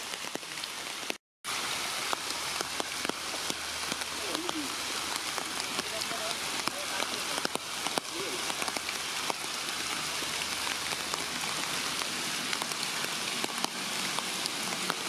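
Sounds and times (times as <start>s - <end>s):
rain hissing: 0.0s - 15.0s
raindrops tapping: 0.0s - 15.0s.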